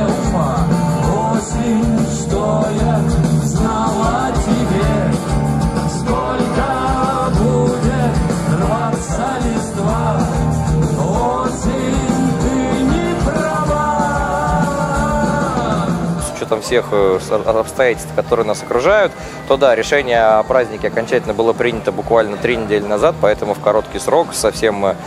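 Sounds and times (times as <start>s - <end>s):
man singing: 0.0s - 21.0s
steady drum beat: 0.0s - 22.2s
acoustic guitar: 0.0s - 25.0s
bass guitar: 0.0s - 25.0s.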